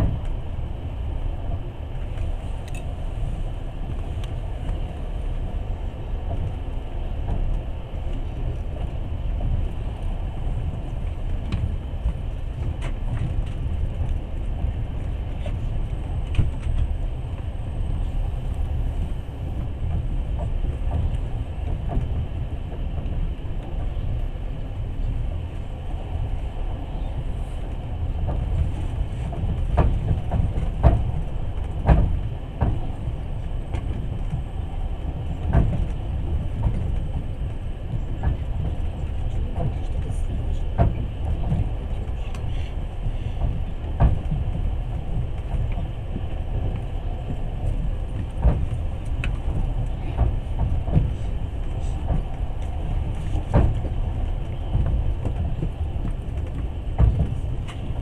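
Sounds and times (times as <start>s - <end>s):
rumble of wheels on rails: 0.0s - 58.0s.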